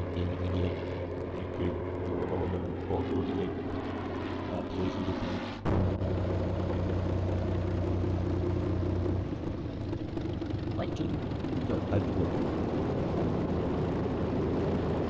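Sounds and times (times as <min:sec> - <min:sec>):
propeller aircraft engine running: 0:00.0 - 0:15.0.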